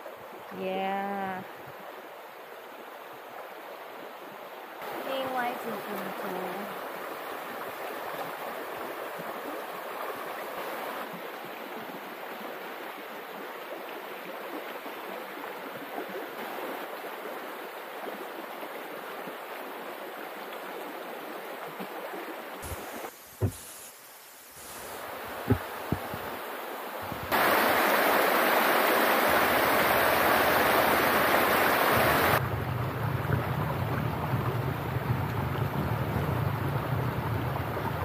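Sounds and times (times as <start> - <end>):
stream water rushing: 1.4 - 38.0.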